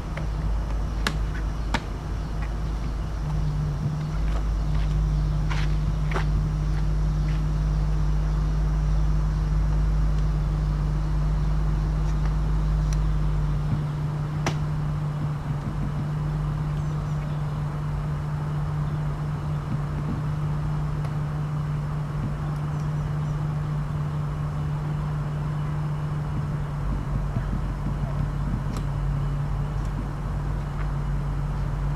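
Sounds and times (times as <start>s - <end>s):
deep drone: 0.0s - 31.9s
low mechanical hum: 0.0s - 31.9s.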